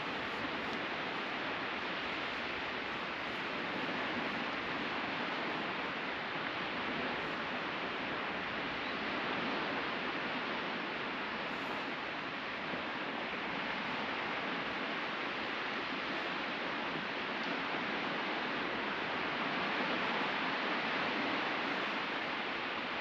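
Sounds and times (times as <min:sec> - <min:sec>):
ocean surf breaking on beach: 0:00.0 - 0:23.0.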